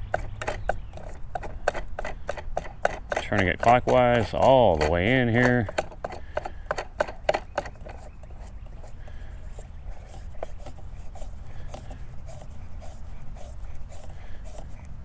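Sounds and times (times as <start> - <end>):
plastic knob scraping and clicking: 0.0 - 15.0.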